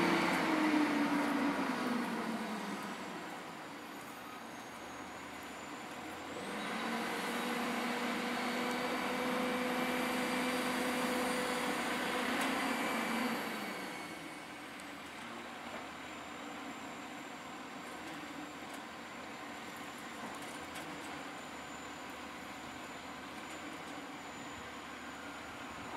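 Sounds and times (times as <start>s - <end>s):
garbage truck diesel engine: 0.0s - 25.9s.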